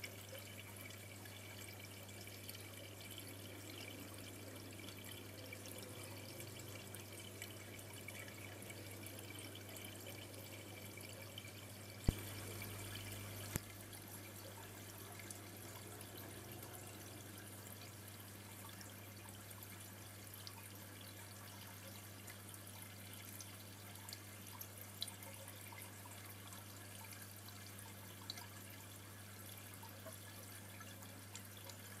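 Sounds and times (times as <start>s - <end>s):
aquarium water trickling: 0.0s - 32.0s.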